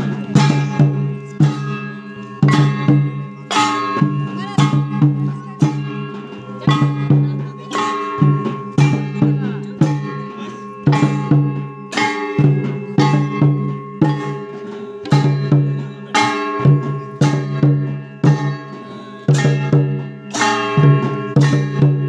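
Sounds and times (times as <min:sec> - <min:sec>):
barrel drums beating: 0:00.0 - 0:22.0
metal gongs ringing: 0:00.0 - 0:22.0.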